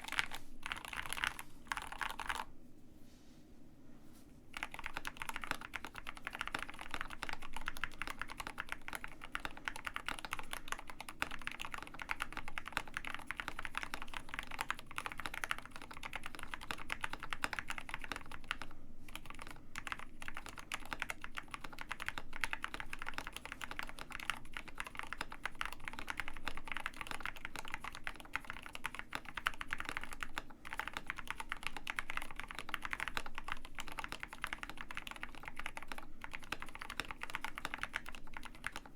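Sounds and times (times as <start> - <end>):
fast typing on mechanical keyboard: 0.0 - 2.5, 4.6 - 38.9.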